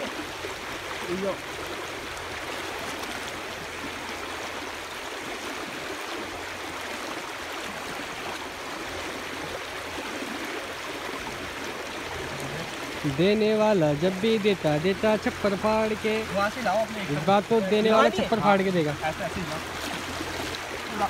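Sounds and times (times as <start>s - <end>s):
river current rushing: 0.0s - 21.0s
water splashing over net: 0.0s - 21.0s.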